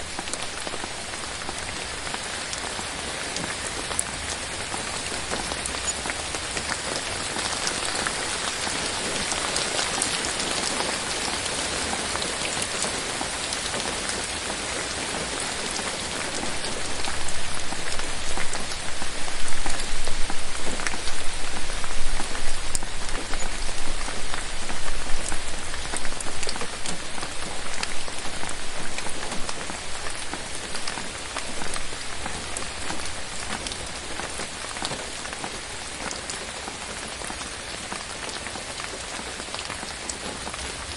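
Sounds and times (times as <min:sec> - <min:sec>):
rain falling in forest: 0:00.0 - 0:40.9
raindrops landing close by: 0:00.0 - 0:40.9.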